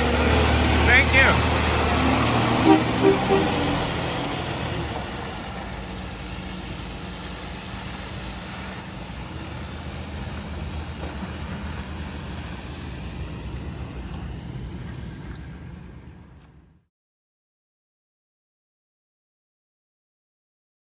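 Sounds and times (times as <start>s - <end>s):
vehicle engine humming: 0.0s - 16.9s.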